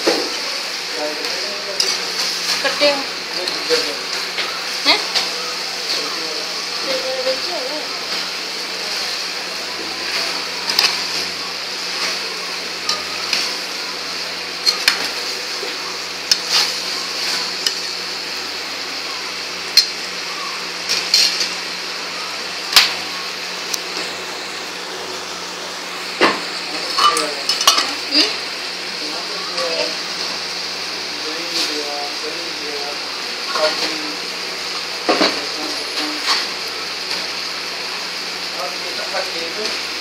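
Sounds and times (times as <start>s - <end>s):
food sizzling in a pan: 0.0s - 40.0s.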